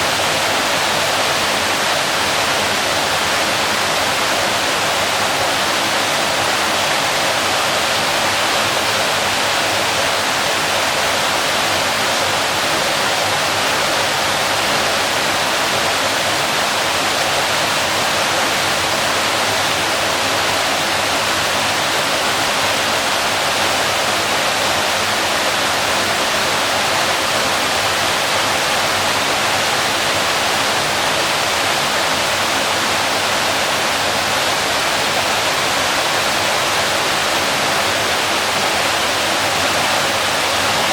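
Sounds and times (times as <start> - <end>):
waterfall splashing: 0.0 - 40.9.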